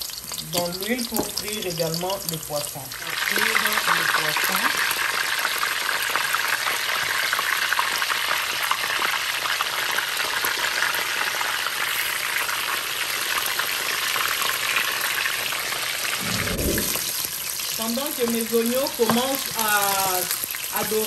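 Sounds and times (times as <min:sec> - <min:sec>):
fish sizzling in oil: 0:00.0 - 0:21.0.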